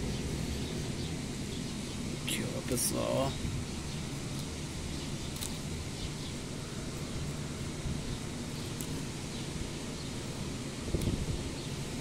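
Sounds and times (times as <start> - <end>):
leaves rustling: 0.0 - 12.0.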